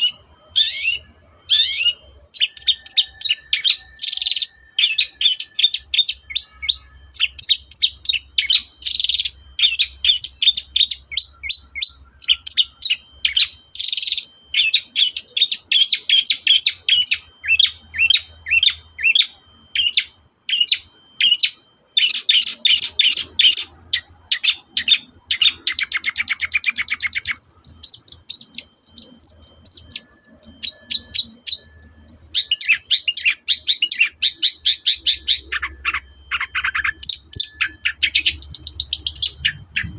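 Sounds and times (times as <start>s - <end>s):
bird chattering song: 0.0s - 39.9s
bird trill: 0.0s - 39.9s.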